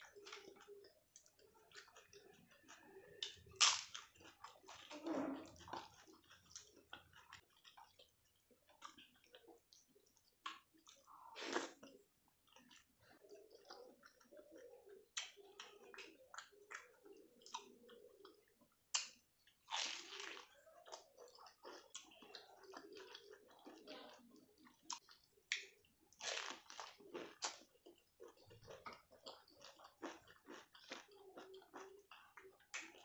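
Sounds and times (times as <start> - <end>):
wet chewing mouth sounds: 0.0 - 33.0.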